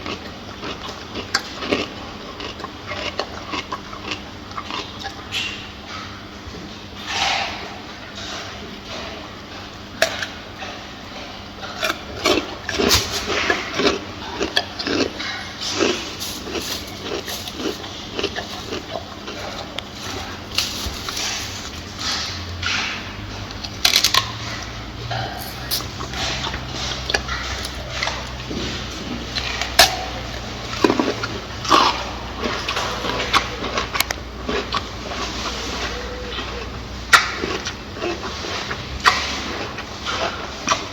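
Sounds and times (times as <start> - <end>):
gorilla crunching and chewing: 0.0 - 40.9
steady low hum: 0.0 - 40.9.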